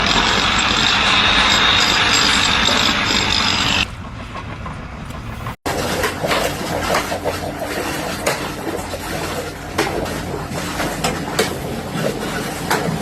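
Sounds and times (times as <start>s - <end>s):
knocks and clatter: 0.0s - 13.0s
machinery noise with high whine: 0.0s - 13.0s.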